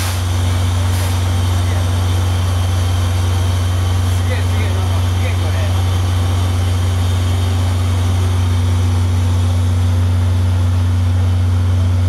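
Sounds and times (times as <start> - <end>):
locomotive cab rumble with hiss: 0.0 - 12.0.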